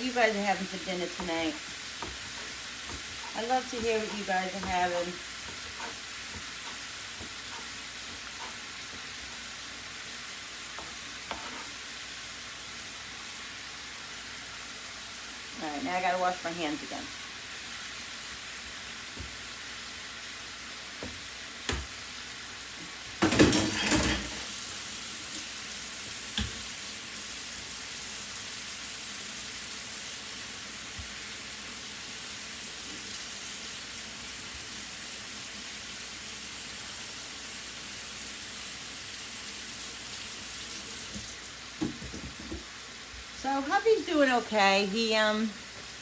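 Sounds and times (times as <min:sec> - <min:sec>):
chicken sizzling in a pan: 0:00.0 - 0:46.0
tap water running: 0:00.0 - 0:46.0.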